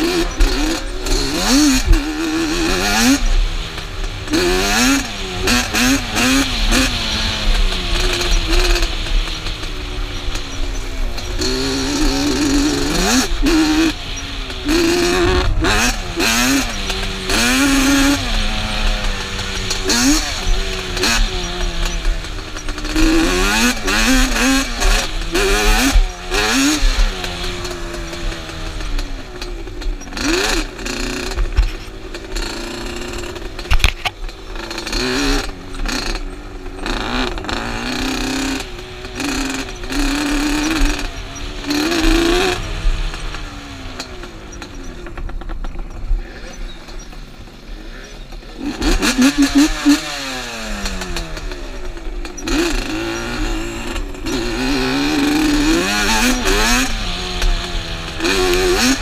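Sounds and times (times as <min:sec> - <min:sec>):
two-stroke quad engine revving: 0:00.0 - 0:59.0.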